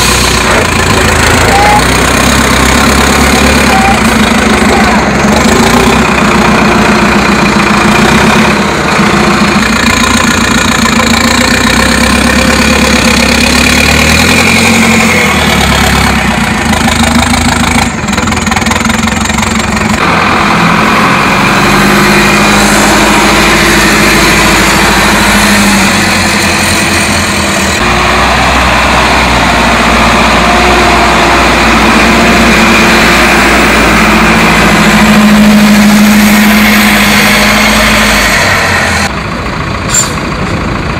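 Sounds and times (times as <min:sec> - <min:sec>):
truck engine under load: 0:00.0 - 0:40.9.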